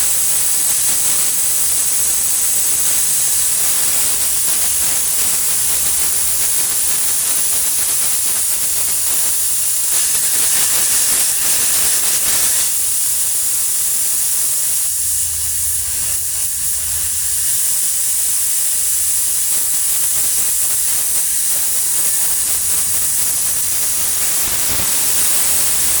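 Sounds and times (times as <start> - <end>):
paint spray gun hissing: 0.0 - 26.0.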